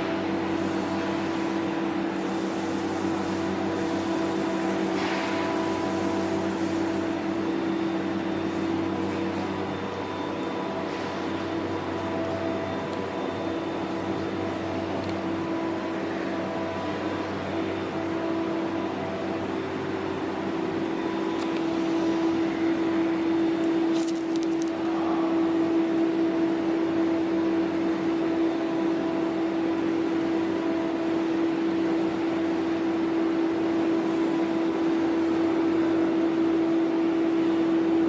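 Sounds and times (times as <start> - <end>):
diesel generator humming: 0.0 - 38.0.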